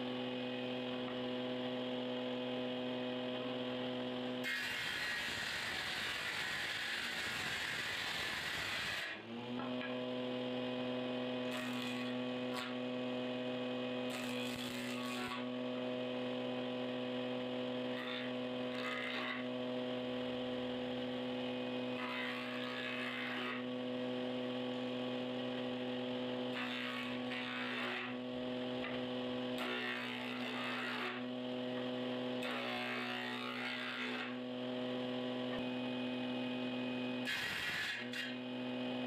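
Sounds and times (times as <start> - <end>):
board cut on saw table: 0.0 - 39.0
woodworking machine humming: 0.0 - 39.0.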